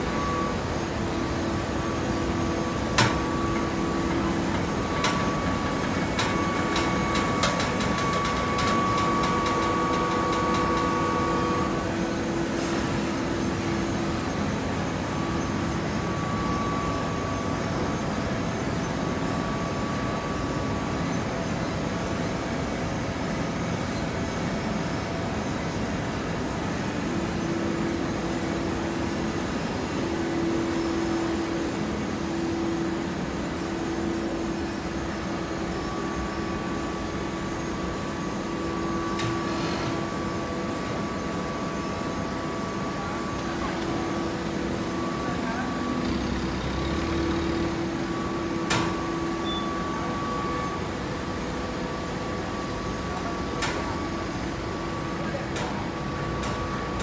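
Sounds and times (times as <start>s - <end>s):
hay baler mechanical drone: 0.0s - 57.0s
steady machine whine: 0.0s - 57.0s.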